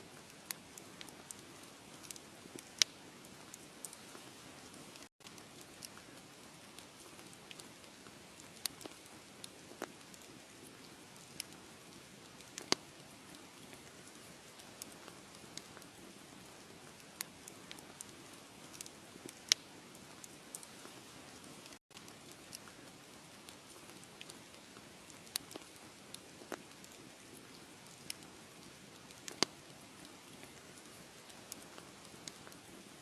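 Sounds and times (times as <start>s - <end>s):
wood fire crackling and popping: 0.1s - 33.0s.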